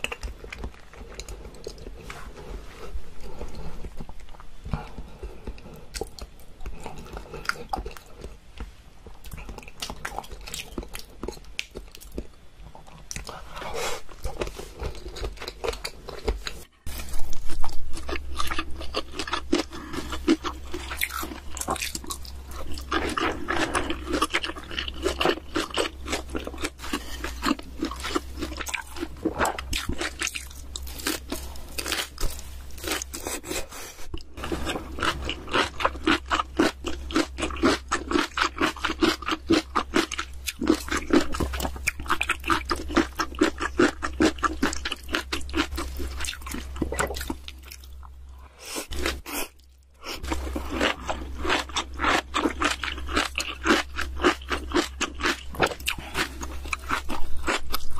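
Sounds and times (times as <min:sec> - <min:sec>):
low steady hum: 0:00.0 - 0:57.9
person chewing food: 0:00.0 - 0:57.9.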